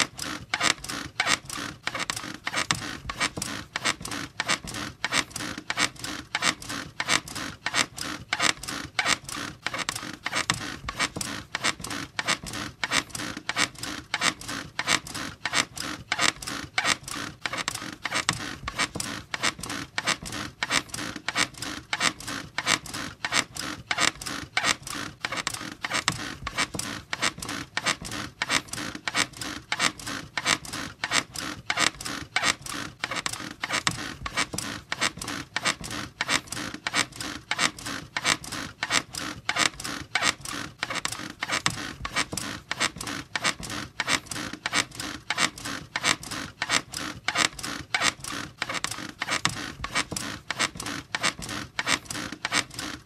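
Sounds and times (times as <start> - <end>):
bed creaking: 0.0 - 53.0.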